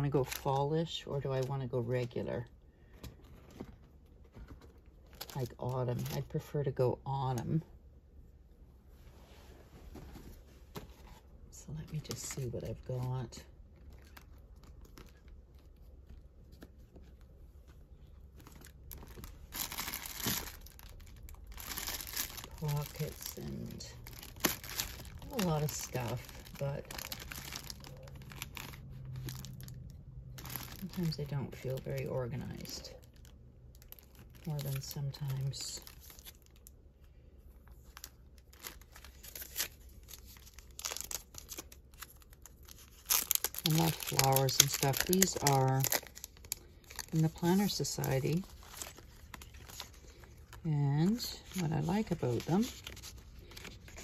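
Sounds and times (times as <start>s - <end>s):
paper and plastic packaging rustling: 9.7s - 36.8s, 37.4s - 54.0s.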